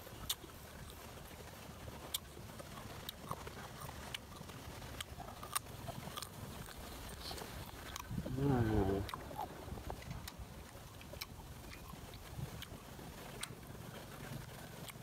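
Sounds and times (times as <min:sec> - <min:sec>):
crunchy bites and chewing: 0:00.0 - 0:15.0.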